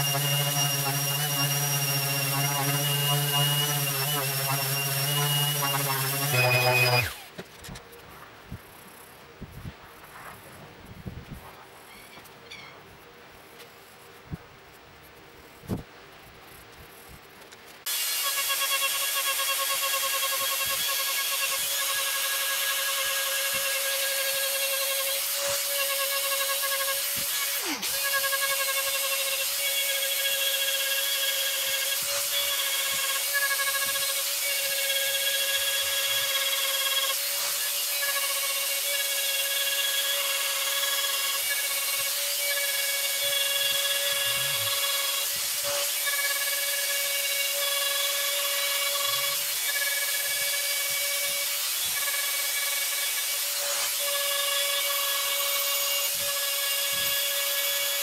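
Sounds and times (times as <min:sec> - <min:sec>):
rotary tool whining: 0:00.0 - 0:07.8, 0:17.9 - 0:58.0.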